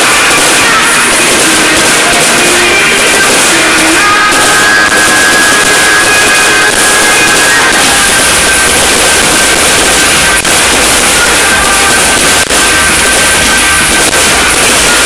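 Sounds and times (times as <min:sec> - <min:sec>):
stadium crowd noise: 0:00.0 - 0:15.0.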